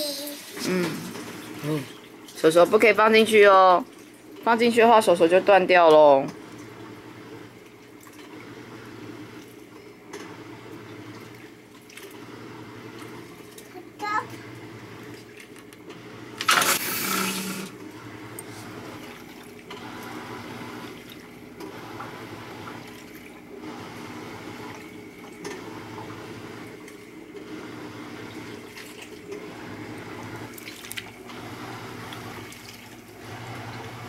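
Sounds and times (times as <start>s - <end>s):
water rushing into washing machine: 0.0s - 34.0s.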